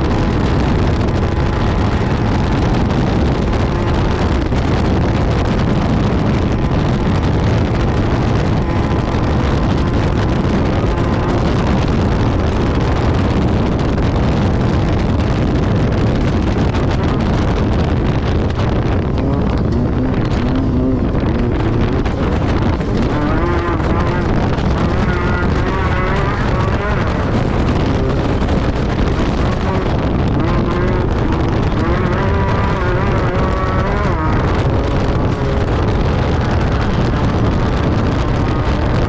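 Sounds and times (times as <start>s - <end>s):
buggy engine running hard: 0.0s - 39.0s
wind buffeting microphone: 0.0s - 39.0s.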